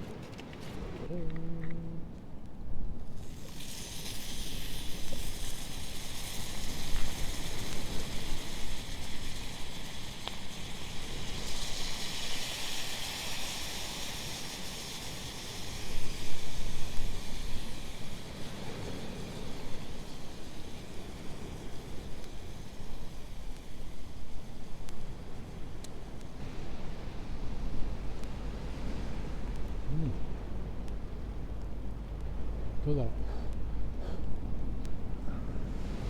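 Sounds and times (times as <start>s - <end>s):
waves washing on beach: 3.2s - 33.0s.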